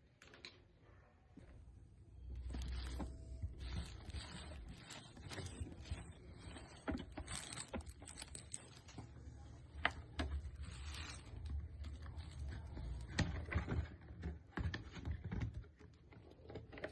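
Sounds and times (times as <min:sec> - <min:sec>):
plastic bottle clicking and rustling: 0:02.2 - 0:16.9.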